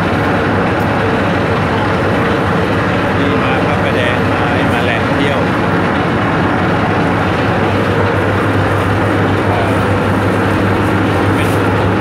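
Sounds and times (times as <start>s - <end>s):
constant rushing noise: 0.0s - 12.0s
ferry engine drone: 0.0s - 12.0s.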